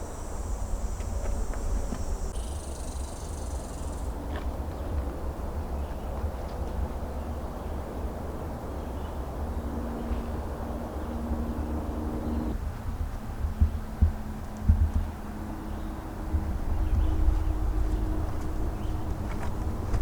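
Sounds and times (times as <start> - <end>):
faint steady hum: 0.0 - 20.0
low rumble on microphone: 0.0 - 20.0.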